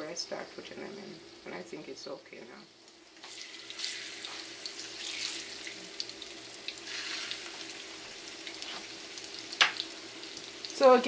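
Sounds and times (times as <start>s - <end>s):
slices frying in hot oil: 0.0s - 11.0s.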